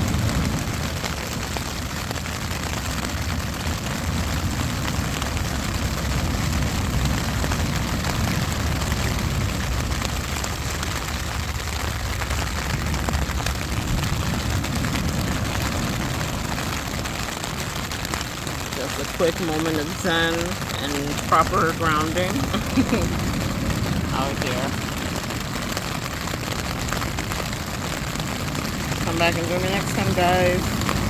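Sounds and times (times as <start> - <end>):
low rumble: 0.0 - 31.0
rain pattering on a tent: 0.0 - 31.0.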